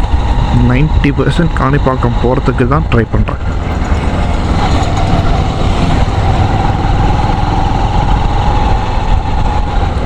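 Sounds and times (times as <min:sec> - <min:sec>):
steady whine: 0:00.0 - 0:10.0
wind and road noise: 0:00.0 - 0:10.0.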